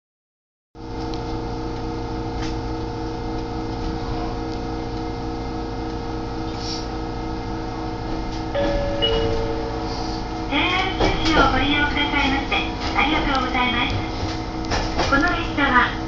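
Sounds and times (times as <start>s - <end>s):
electric train humming: 0.8s - 16.0s
train low rumble: 0.8s - 16.0s.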